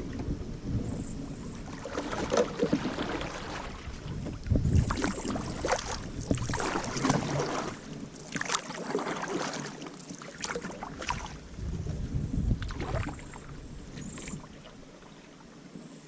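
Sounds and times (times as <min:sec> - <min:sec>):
wind rumble on microphone: 0:00.0 - 0:08.4, 0:10.6 - 0:15.9
paddle strokes splashing: 0:00.0 - 0:11.5, 0:12.6 - 0:15.7
water lapping around hull: 0:00.0 - 0:16.0.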